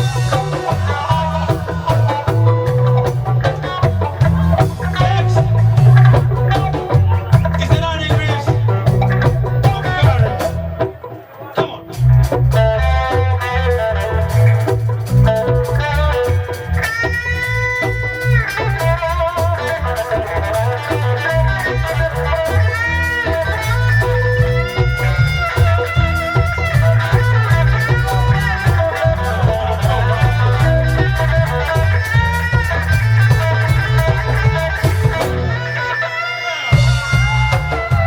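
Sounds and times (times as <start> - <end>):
heavy bass line: 0.0 - 38.0
lead guitar with bent notes: 0.0 - 38.0.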